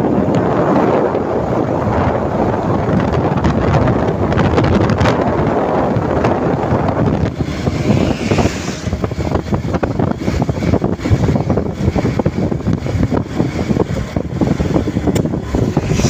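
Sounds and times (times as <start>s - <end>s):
road noise rushing: 0.0s - 16.0s
wind buffeting microphone: 0.0s - 16.0s.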